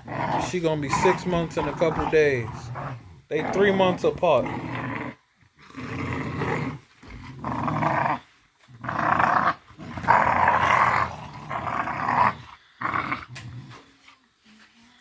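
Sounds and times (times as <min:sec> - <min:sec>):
puppies growling: 0:00.0 - 0:13.9.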